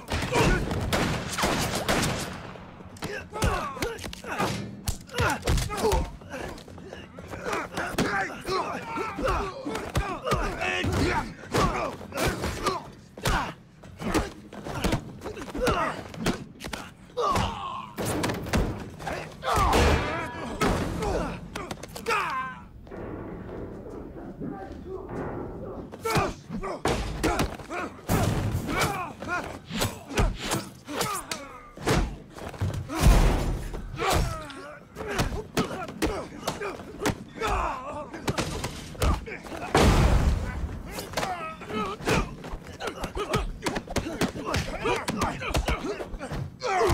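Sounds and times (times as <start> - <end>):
grunts and groans of effort: 2.9 - 22.9, 25.6 - 46.9.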